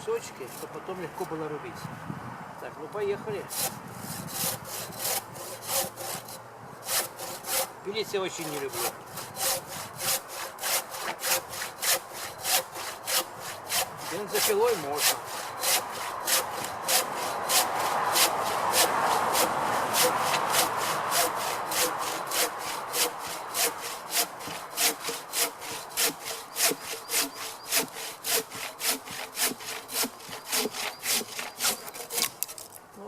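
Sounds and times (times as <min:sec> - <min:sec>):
hand saw cutting wood: 0:00.2 - 0:01.4, 0:03.5 - 0:32.8.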